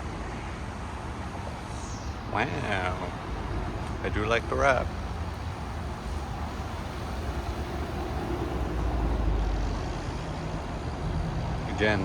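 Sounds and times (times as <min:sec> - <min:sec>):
car engine running: 0:01.4 - 0:12.0.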